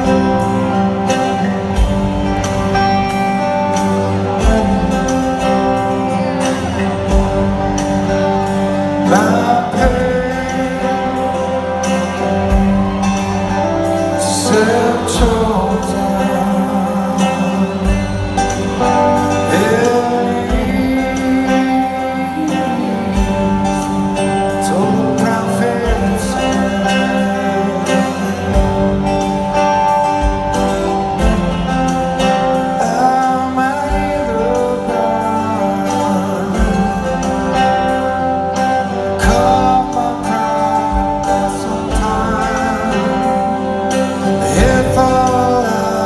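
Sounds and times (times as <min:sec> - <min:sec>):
bass guitar: 0:00.0 - 0:46.0
drums: 0:00.0 - 0:46.0
electric guitars: 0:00.0 - 0:46.0
male lead vocal: 0:02.7 - 0:30.2, 0:31.2 - 0:46.0.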